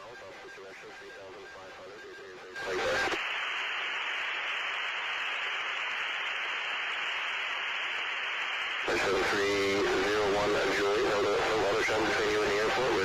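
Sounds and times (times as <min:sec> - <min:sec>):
radio-like intercom hiss: 0:00.0 - 0:13.0.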